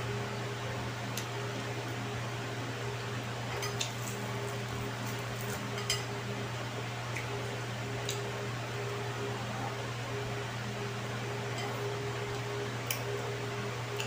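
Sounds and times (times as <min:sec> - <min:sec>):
electric fan humming: 0:00.0 - 0:14.0.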